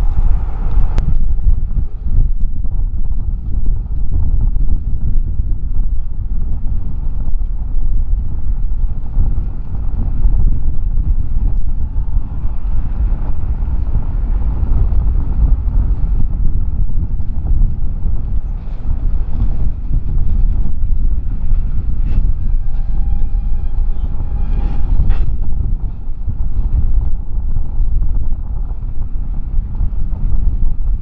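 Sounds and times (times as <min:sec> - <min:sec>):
low steady rumble: 0:00.0 - 0:31.0
wind buffeting microphone: 0:00.0 - 0:31.0.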